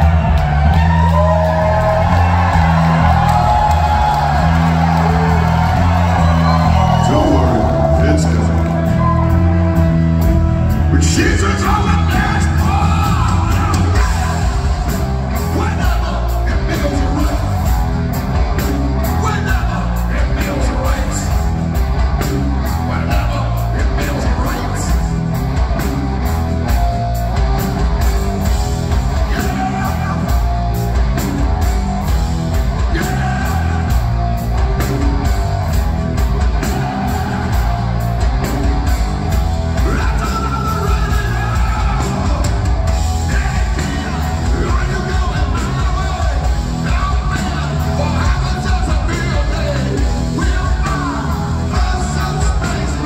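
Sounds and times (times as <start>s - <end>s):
bass guitar: 0.0s - 53.0s
drum kit steady beat: 0.0s - 53.0s.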